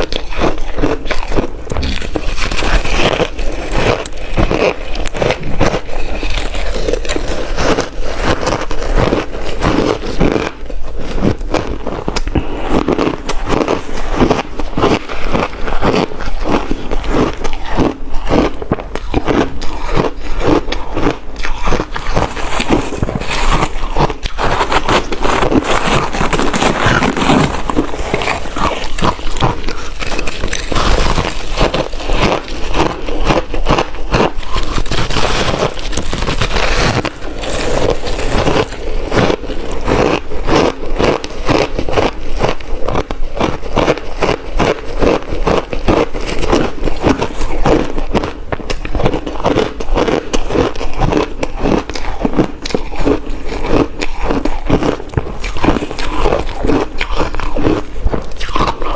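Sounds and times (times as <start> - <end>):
ice crunching being chewed: 0.0 - 58.9.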